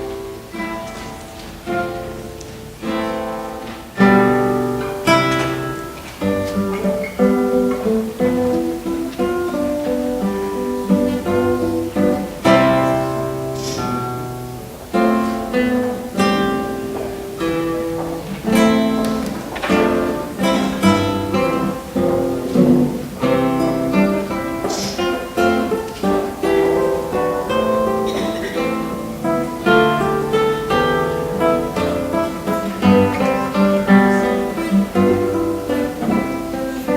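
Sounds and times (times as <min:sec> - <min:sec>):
acoustic guitar music: 0:00.0 - 0:36.9.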